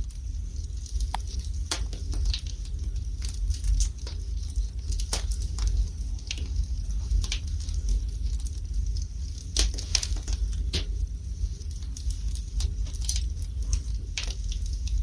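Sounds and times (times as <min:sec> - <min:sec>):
fire crackling and popping: 0:00.0 - 0:15.0
low fire rumble: 0:00.0 - 0:15.0.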